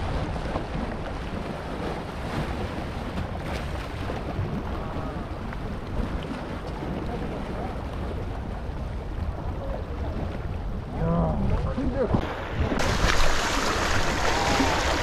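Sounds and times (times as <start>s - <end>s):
waves splashing over rocks: 0.0s - 15.0s
wind buffeting microphone: 0.0s - 15.0s.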